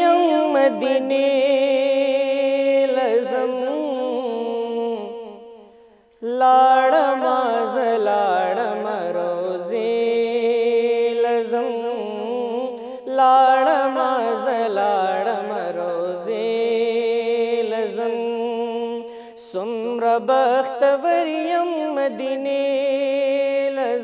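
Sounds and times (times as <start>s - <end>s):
man singing melismatic notes: 0.0s - 24.0s.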